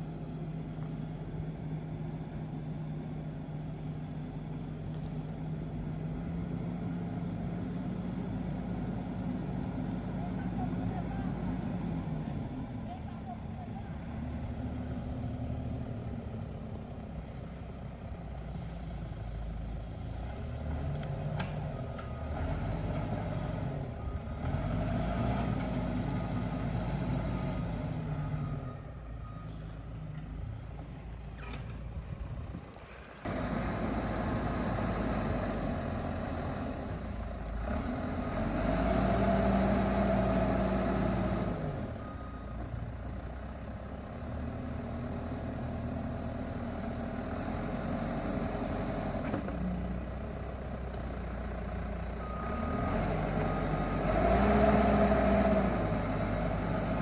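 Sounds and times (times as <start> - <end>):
diesel engine revving under load: 5.4 - 57.0.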